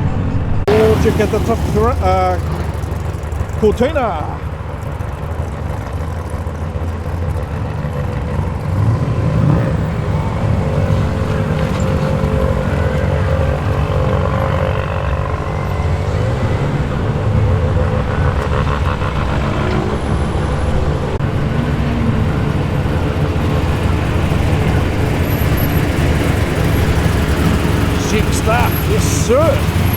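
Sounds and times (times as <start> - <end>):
car engine rumbling at low revs: 0.6 - 29.9.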